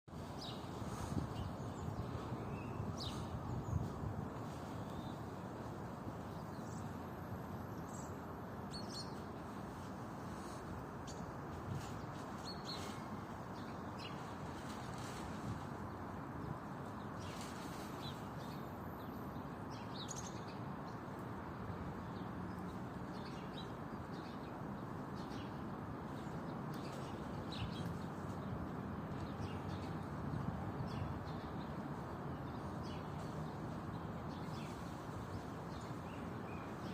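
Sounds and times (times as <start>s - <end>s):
low outdoor background hum: 0.1s - 36.9s.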